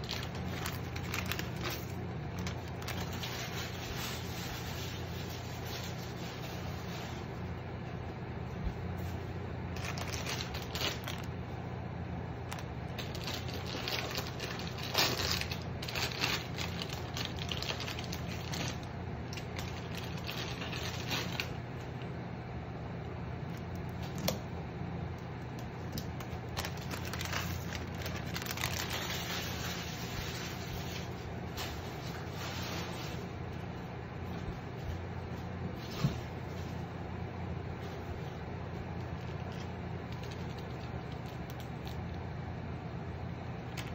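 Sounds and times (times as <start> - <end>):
cooktop low hum: 0.0 - 43.9.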